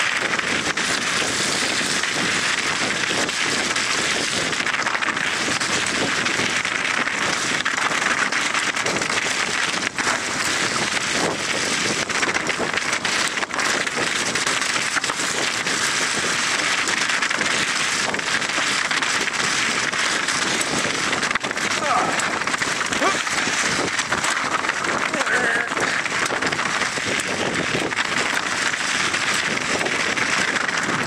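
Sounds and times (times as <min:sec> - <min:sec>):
bike rattling and knocking: 0:00.0 - 0:31.0
bike tyres rushing through slush: 0:00.0 - 0:31.0
wind on microphone: 0:00.0 - 0:31.0.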